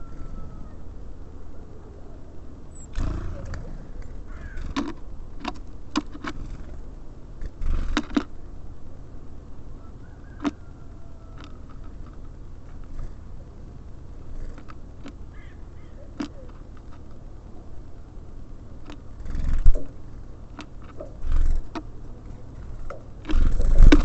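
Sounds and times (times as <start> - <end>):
birds pecking at seed: 2.7 - 8.4, 9.8 - 24.0.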